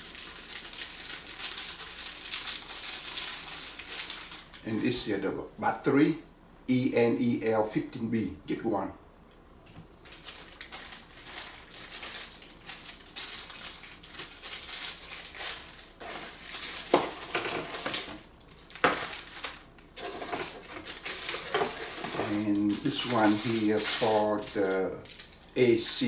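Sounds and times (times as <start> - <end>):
plastic bag crinkling: 0.0 - 5.0, 10.0 - 26.0.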